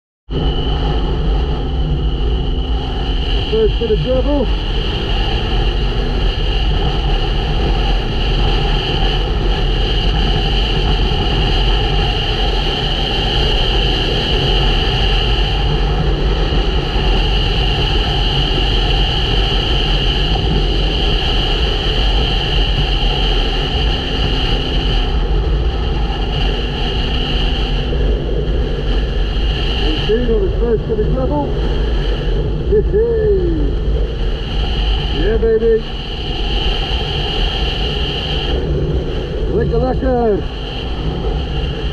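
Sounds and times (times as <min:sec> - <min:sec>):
motorcycle engine: 0:00.3 - 0:41.9
wind rushing on microphone: 0:00.3 - 0:41.9.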